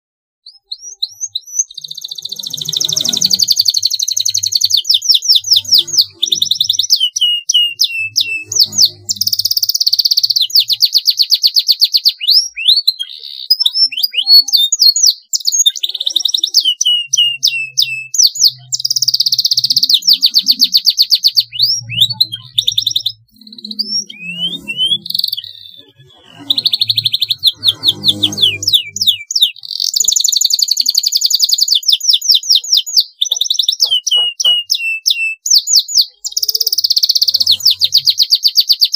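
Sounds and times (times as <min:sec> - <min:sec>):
canary singing: 0:00.4 - 0:38.9.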